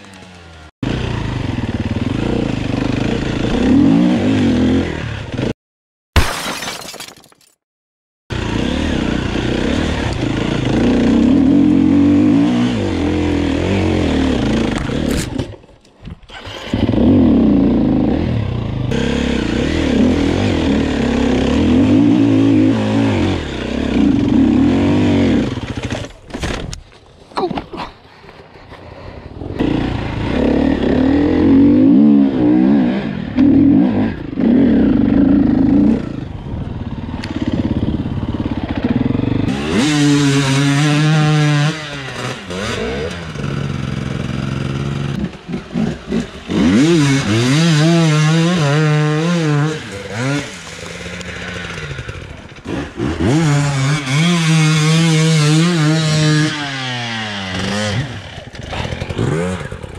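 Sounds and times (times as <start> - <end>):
dirt bike engines revving: 8.3 - 15.5, 16.3 - 26.2, 28.6 - 59.9.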